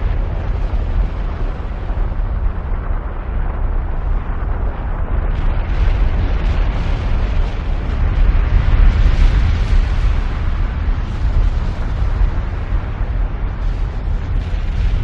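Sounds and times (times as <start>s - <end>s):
deep rumble: 0.0s - 15.0s
dense rushing noise: 0.0s - 15.0s.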